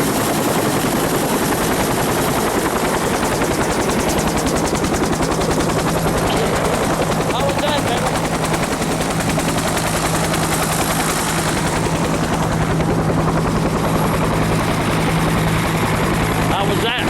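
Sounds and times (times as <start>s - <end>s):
helicopter engine hum: 0.0s - 17.0s
helicopter rotor beating: 0.0s - 17.0s.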